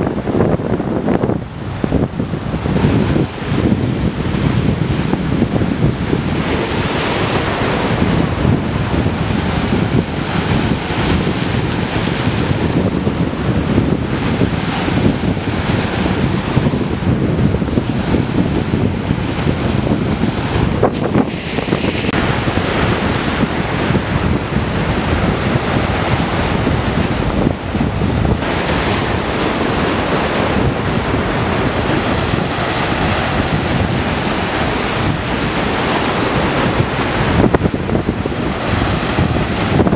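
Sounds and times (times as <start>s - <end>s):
waves breaking on rocks: 0.0s - 39.9s
wind buffeting the microphone: 0.0s - 39.9s.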